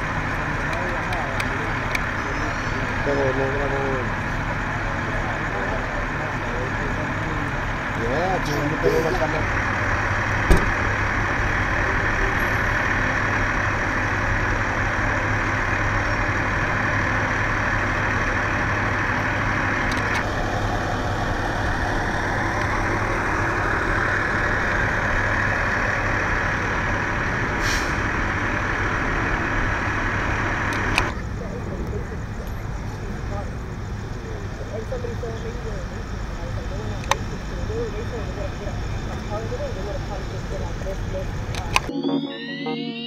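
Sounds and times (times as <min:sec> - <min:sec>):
diesel engines idling: 0:00.0 - 0:41.9.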